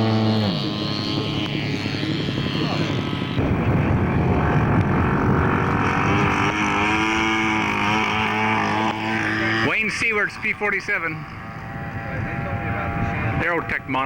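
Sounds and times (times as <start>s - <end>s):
model aircraft engine buzzing: 0.0s - 14.0s.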